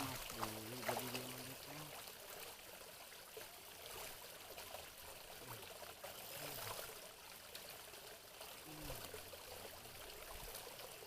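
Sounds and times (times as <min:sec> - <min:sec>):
water trickling and pouring: 0:00.0 - 0:11.0.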